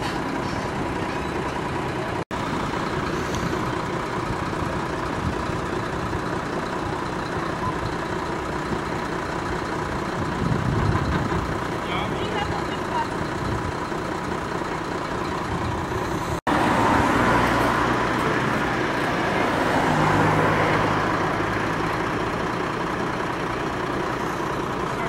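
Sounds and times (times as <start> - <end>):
road traffic noise: 0.0 - 25.0
vehicle engine hum: 0.0 - 25.0.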